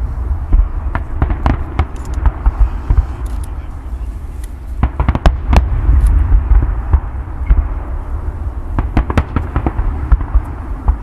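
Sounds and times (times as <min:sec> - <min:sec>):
fireworks cracking: 0:00.0 - 0:11.0
low rumble of booming shells: 0:00.0 - 0:11.0.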